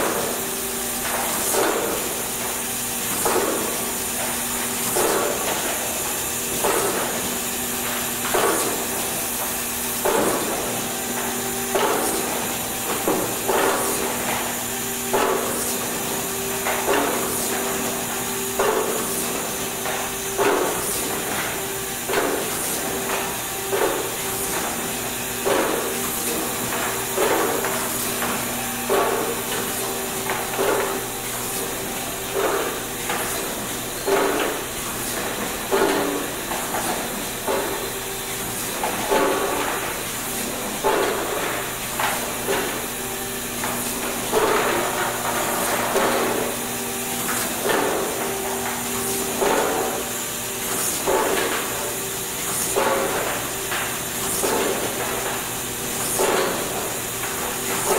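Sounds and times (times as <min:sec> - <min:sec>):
printing machine knocking: 0:00.0 - 0:57.9.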